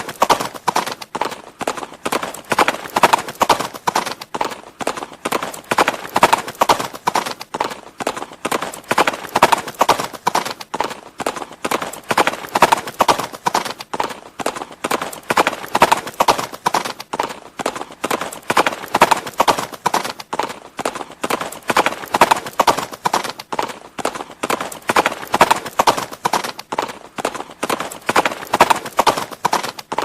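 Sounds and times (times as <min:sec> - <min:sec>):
horse hooves clip-clopping: 0:00.0 - 0:30.0.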